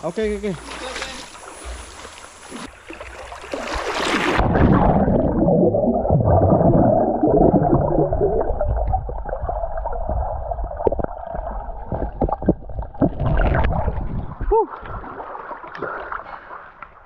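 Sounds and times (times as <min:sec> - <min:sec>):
low underwater rumble: 0:00.6 - 0:15.4
underwater gurgling water: 0:01.3 - 0:17.0
air bubbles: 0:01.7 - 0:16.2.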